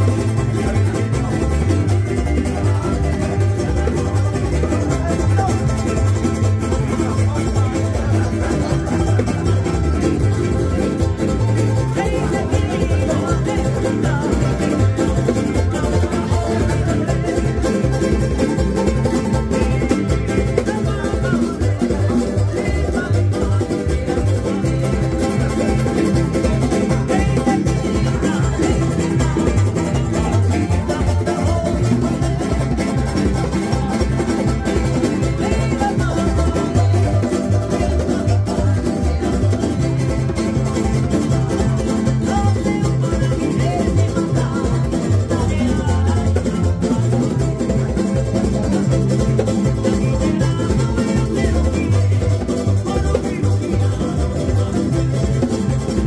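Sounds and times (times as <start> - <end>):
string band playing: 0.0 - 56.0.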